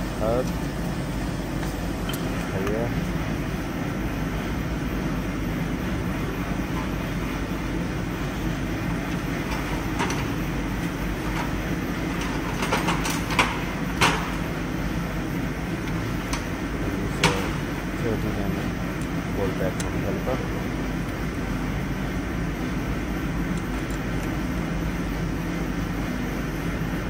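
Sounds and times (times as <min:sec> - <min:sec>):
low workshop rumble: 0:00.0 - 0:27.0.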